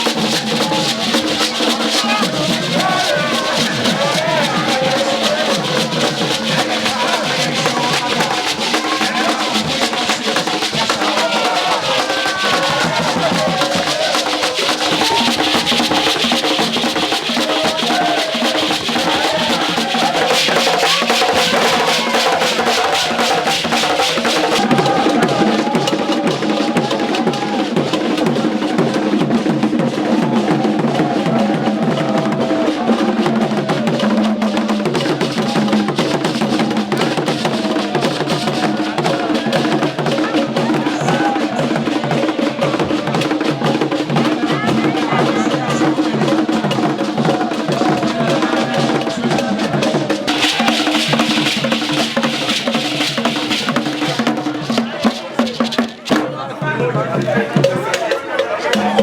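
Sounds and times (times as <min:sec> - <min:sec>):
drums beating fast: 0:00.0 - 0:59.0
wood block percussion: 0:00.0 - 0:59.0.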